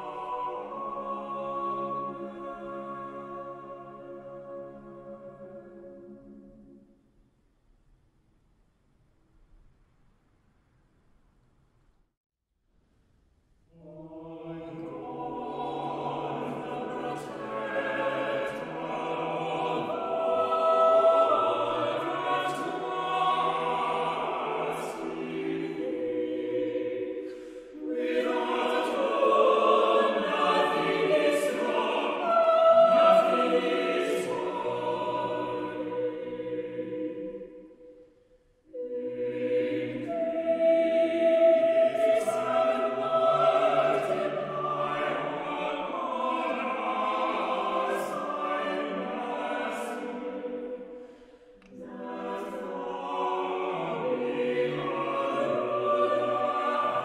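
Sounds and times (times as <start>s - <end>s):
choir singing in harmony: 0.0s - 7.0s, 13.7s - 57.0s.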